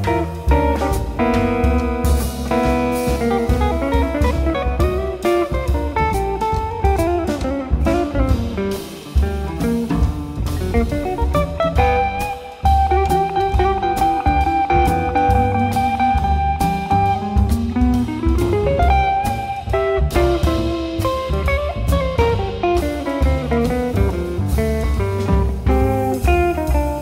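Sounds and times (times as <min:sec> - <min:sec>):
double bass: 0:00.0 - 0:27.0
drum kit: 0:00.0 - 0:27.0
electric guitar solo: 0:00.0 - 0:27.0.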